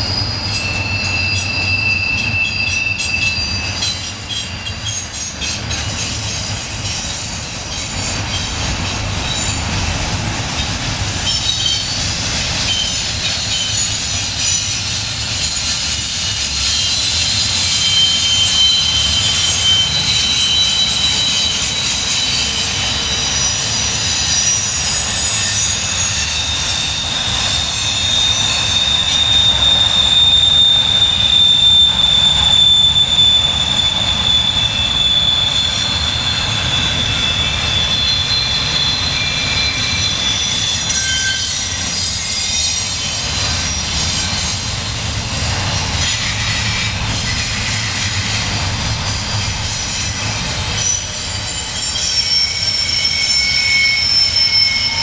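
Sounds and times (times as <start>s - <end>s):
train cars rumbling past: 0.0s - 55.0s
wheels squealing on a curve: 0.0s - 55.0s.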